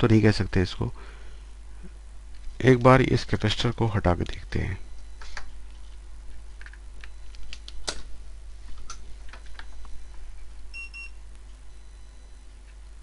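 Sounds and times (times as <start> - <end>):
mains hum: 0.0 - 13.0.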